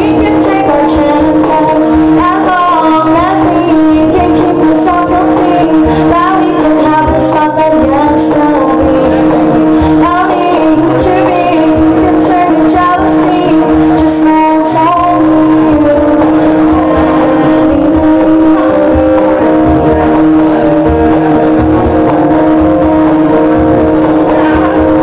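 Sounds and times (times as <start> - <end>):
woman singing: 0.0 - 21.2.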